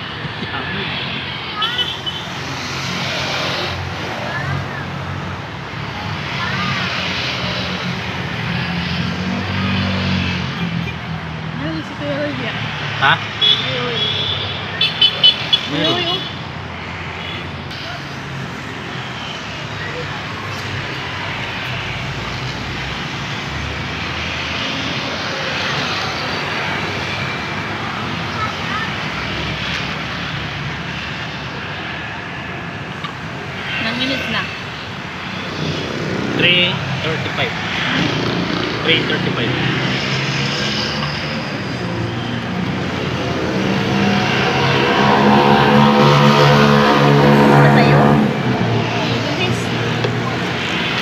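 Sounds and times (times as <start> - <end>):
distant engine roar: 0.0 - 51.0.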